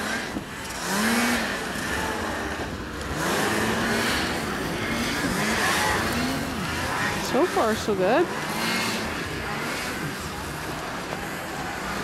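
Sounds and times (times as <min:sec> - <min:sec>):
snowmobile engines revving: 0:00.0 - 0:12.0.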